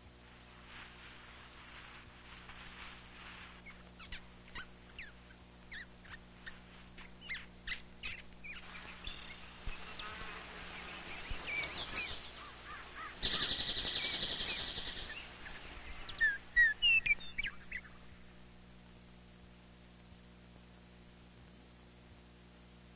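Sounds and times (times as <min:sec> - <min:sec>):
steady hissing buzz: 0:00.0 - 0:22.9.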